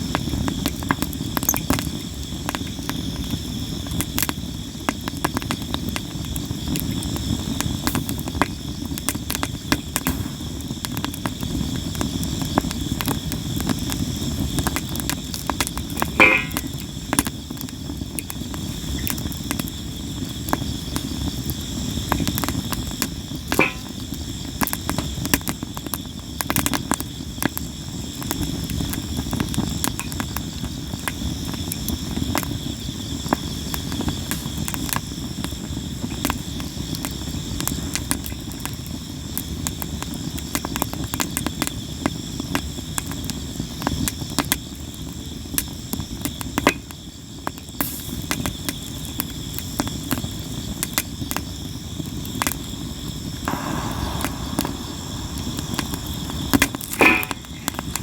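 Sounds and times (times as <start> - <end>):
campfire crackling and popping: 0.0 - 58.0
insects chirping: 0.0 - 58.0
low rumble of flame: 0.0 - 58.0.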